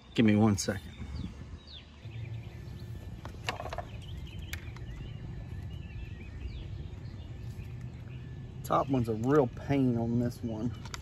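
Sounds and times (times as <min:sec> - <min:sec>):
faint birds chirping: 0:00.0 - 0:11.0
low outdoor background noise: 0:00.0 - 0:11.0.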